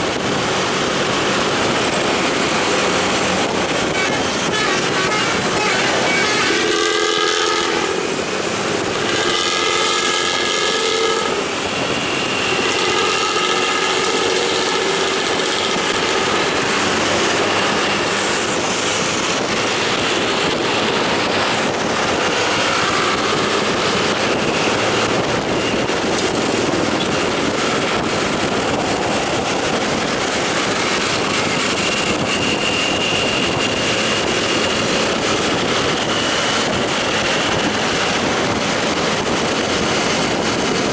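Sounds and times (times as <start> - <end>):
bus engine and exhaust: 0.0 - 40.9
multi-tone bus horn: 3.0 - 39.3.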